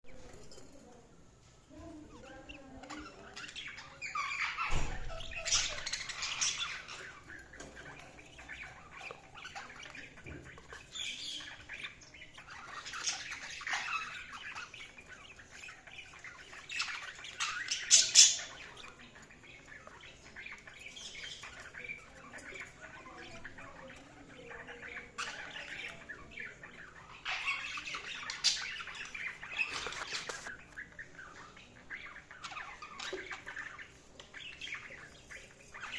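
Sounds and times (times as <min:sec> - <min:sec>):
budgerigars chirping and warbling: 0:00.1 - 0:35.9.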